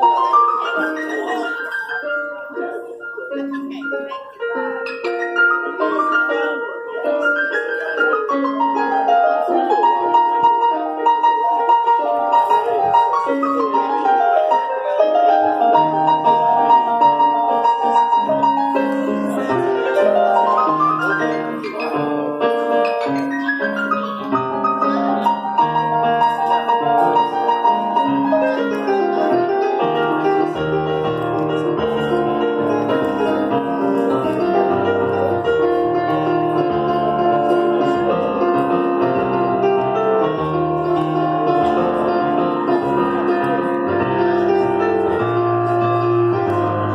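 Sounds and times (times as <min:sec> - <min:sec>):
solo piano runs and chords: 0:00.0 - 0:46.9.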